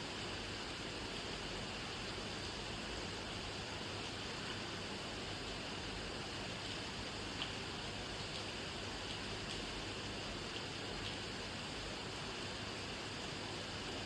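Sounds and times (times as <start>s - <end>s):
steady rain hissing: 0.0s - 14.0s.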